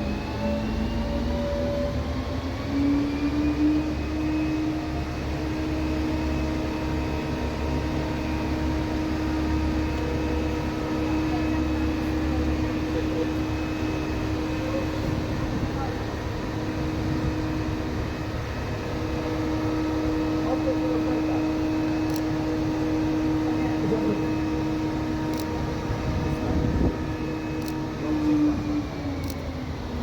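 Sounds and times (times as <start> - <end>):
constant low rumble: 0.0 - 30.0.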